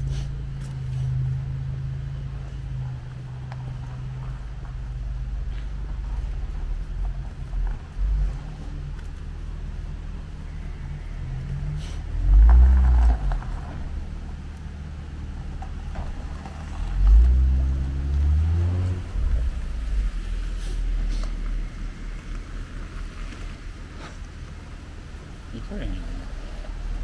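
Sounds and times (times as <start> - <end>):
cars driving past: 0.0 - 27.0
steady low rumble: 0.0 - 27.0.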